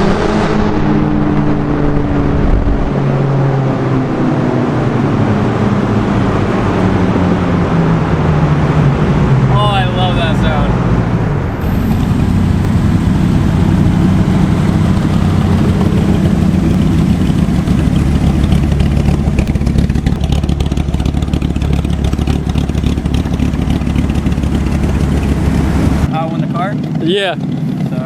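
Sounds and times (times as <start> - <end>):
deep car exhaust drone: 0.0 - 28.0.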